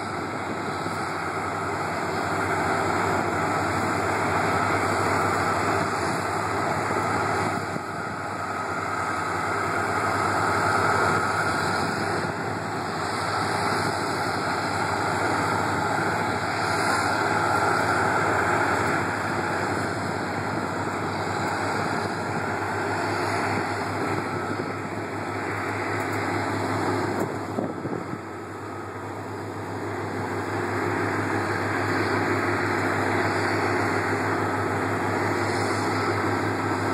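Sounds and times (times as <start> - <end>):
tyres on gravel road: 0.0 - 36.9
vehicle engine: 0.0 - 36.9.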